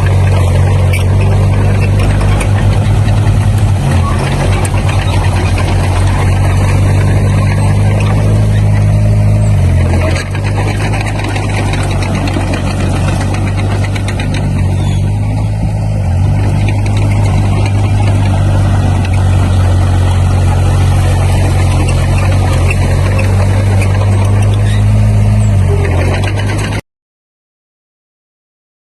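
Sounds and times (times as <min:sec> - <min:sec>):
light clatter: 0:00.0 - 0:15.6, 0:16.3 - 0:26.8
diesel engine humming: 0:00.0 - 0:26.8.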